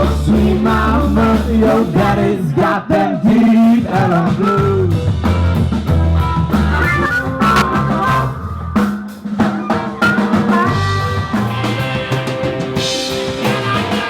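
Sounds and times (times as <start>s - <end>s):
rock band music: 0.0s - 2.6s, 3.4s - 14.0s.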